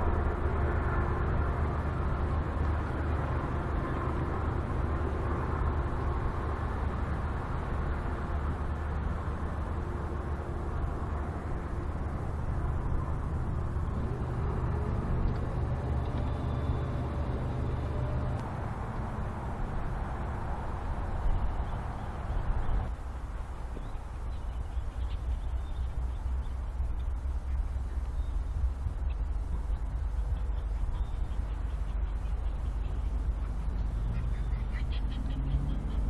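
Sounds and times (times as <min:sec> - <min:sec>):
diesel locomotive engine rumble: 0:00.0 - 0:36.0.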